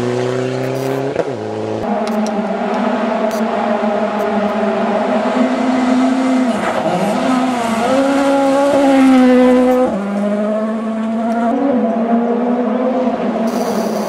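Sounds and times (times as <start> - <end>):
rally car engine passing by: 0.0 - 13.5.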